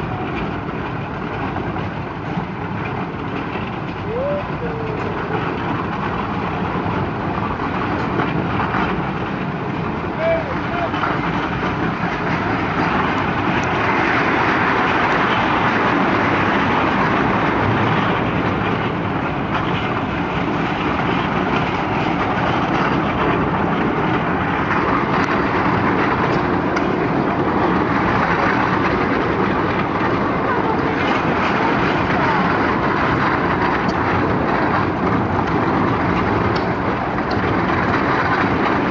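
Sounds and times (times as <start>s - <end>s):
miniature train wheels rattling on rails: 0.0s - 38.9s.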